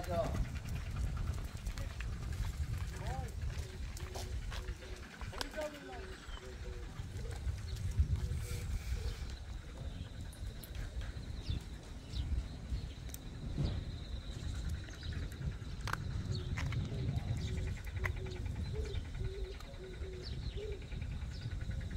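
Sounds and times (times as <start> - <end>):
wind rumble on microphone: 0.0 - 21.9.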